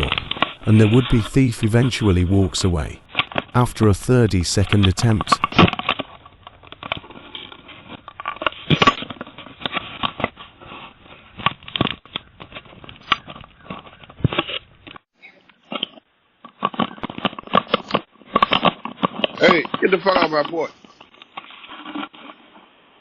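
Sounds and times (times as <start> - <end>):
scraping and tapping at microphone: 0.0 - 15.0, 15.6 - 22.6.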